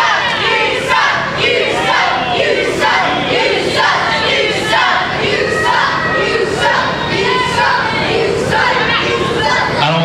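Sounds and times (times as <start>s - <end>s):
crowd shouting and yelling: 0.0s - 10.0s.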